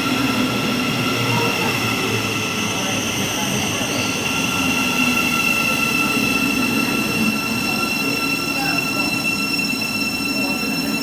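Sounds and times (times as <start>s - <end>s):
high-pitched squeal: 0.0s - 11.0s.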